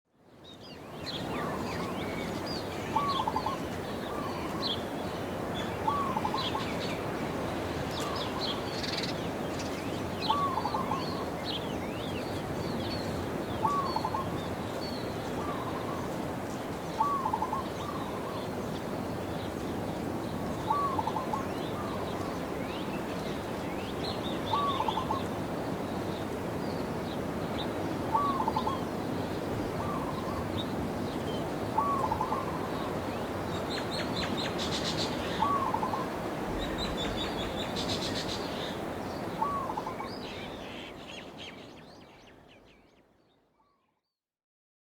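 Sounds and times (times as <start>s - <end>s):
outdoor background hiss: 0.2s - 43.3s
songbirds chirping: 0.4s - 43.8s.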